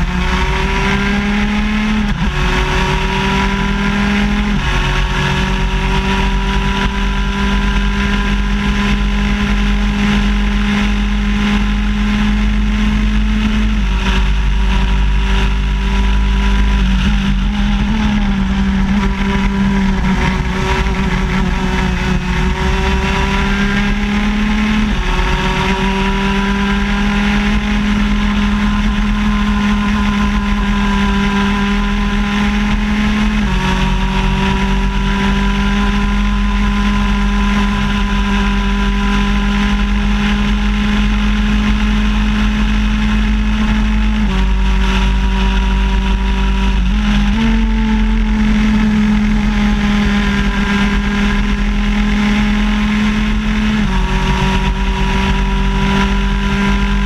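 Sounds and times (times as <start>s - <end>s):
kart engine revving high: 0.0s - 57.0s
wind and road noise: 0.0s - 57.0s.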